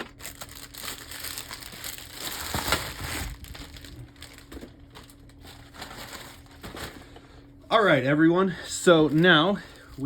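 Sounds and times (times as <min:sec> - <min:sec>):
crinkly packaging rustling: 0:00.0 - 0:10.0.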